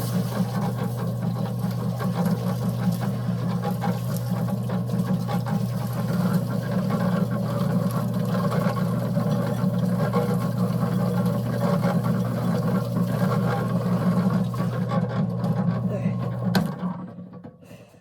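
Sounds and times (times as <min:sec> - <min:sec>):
concrete mixer running: 0:00.0 - 0:17.6.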